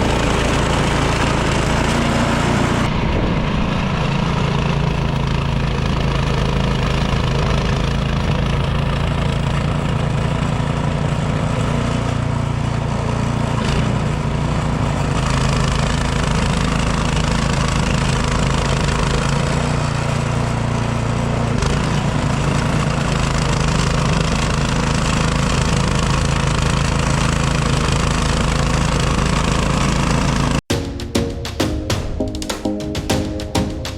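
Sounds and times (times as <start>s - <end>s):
snowblower engine running: 0.0s - 30.6s.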